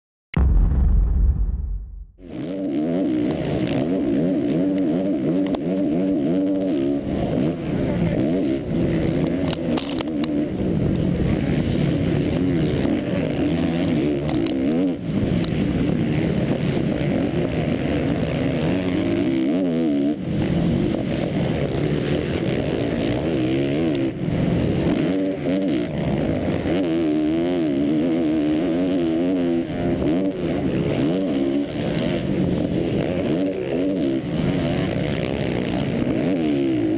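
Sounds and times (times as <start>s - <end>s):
motocross bike engine revving: 2.2s - 36.9s.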